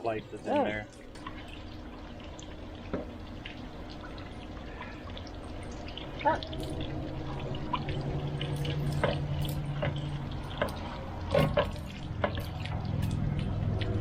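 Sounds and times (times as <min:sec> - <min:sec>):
steady low hum: 0:00.0 - 0:14.0
water pouring and dripping: 0:00.0 - 0:14.0
water splashes: 0:00.0 - 0:14.0.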